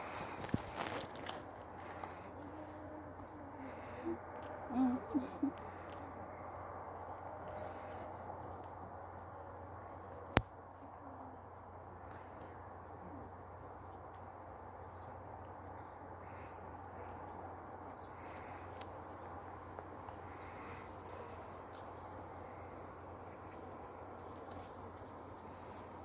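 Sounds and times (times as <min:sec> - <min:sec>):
faint background hiss and hum: 0:00.0 - 0:26.0.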